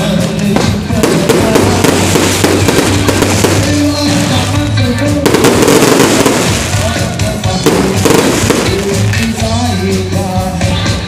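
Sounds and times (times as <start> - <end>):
music playing: 0.0 - 11.0
fireworks bangs: 0.1 - 9.6.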